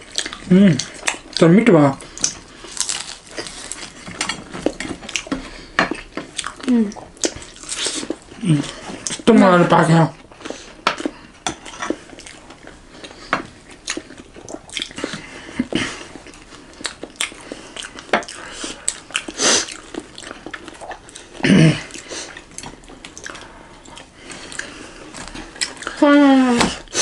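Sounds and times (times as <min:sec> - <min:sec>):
biting and chewing food: 0:00.0 - 0:09.3, 0:10.2 - 0:26.0.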